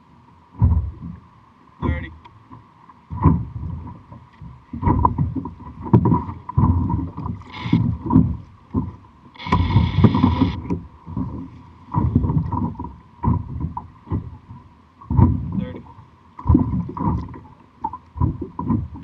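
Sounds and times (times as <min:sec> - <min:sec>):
water sloshing against kayak hull: 0:00.4 - 0:19.0.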